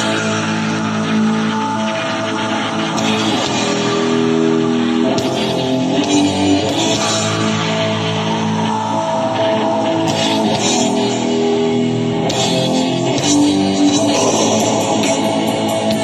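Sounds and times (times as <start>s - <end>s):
high guitar bursts: 0.0s - 16.0s
metal band playing live: 0.0s - 16.0s.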